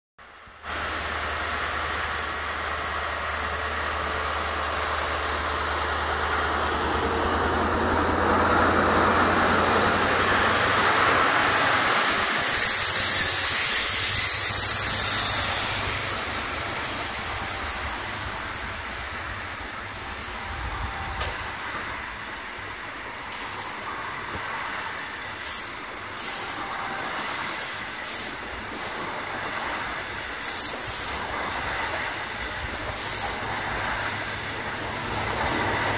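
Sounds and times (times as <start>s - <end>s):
diesel train engine pulling away: 0.2s - 35.9s
train coaches rolling on rails: 0.2s - 35.9s.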